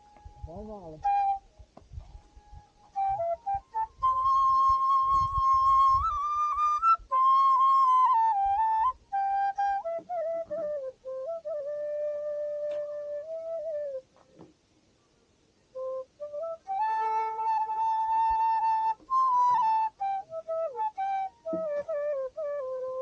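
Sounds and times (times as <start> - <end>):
flute playing slow melody: 0.0 - 14.1, 15.7 - 23.0.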